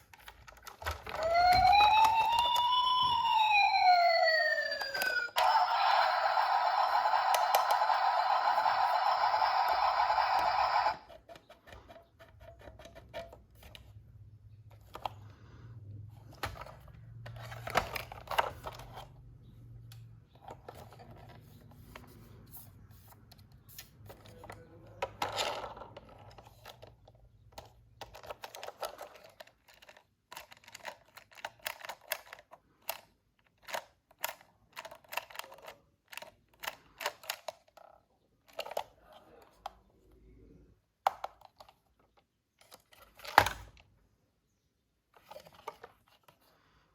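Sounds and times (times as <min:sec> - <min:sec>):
plastic toys and packaging handled: 0:00.0 - 0:46.9.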